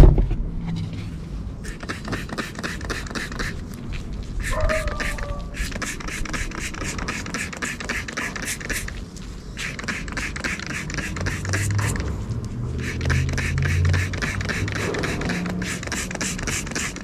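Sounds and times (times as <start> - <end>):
scrubbing on metal: 1.6 - 3.7, 4.3 - 17.0.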